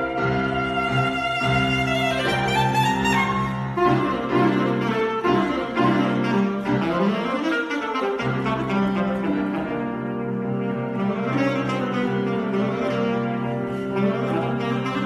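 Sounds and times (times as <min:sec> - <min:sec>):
alto saxophone solo: 0:00.0 - 0:15.0.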